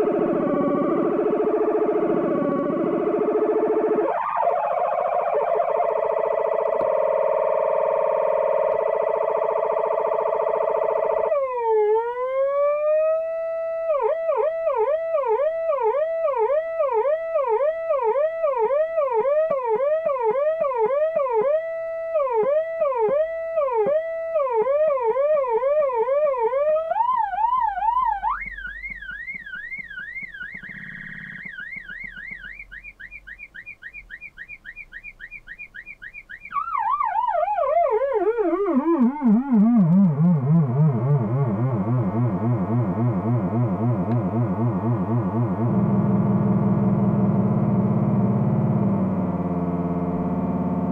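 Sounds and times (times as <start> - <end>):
synthesized siren-like tones: 0.0 - 50.9.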